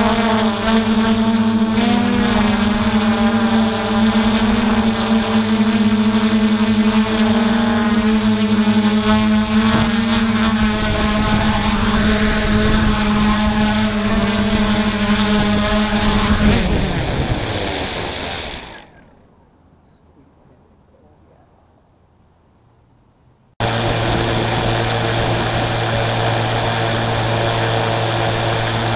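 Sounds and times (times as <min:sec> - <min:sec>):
drone motors humming: 0:00.0 - 0:19.4, 0:23.6 - 0:28.9.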